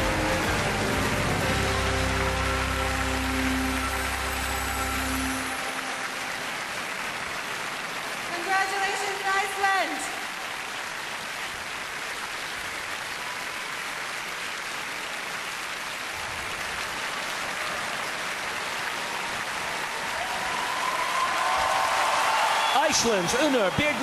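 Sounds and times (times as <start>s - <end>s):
audience applause: 0.0s - 24.0s.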